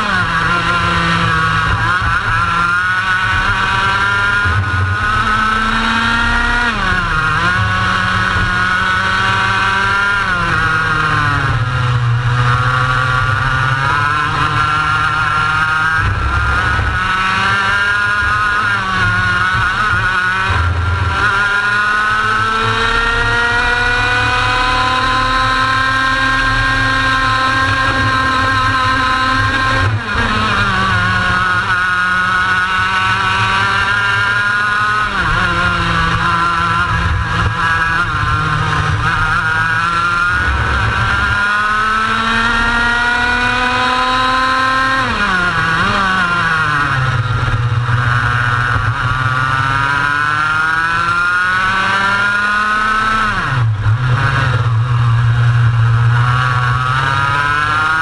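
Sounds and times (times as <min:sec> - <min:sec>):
two-stroke kart engine revving: 0:00.0 - 0:58.0.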